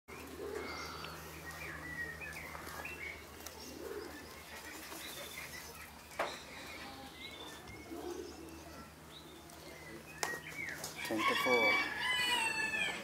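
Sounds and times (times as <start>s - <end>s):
steady low hum: 0.1s - 11.0s
small birds chirping: 0.1s - 12.2s.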